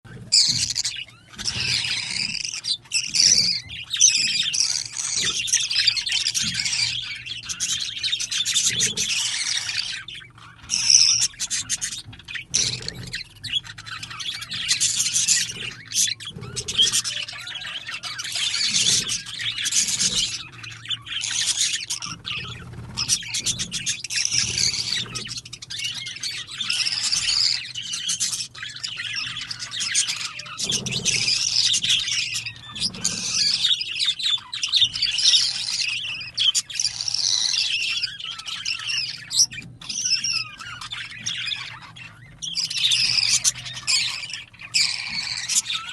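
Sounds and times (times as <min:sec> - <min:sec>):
parrot chick crying: 0:00.1 - 0:45.9.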